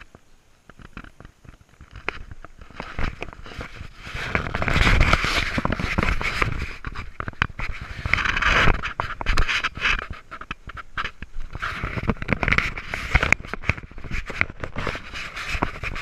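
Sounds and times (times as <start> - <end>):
scrub brushing against camera: 2.6 - 16.0.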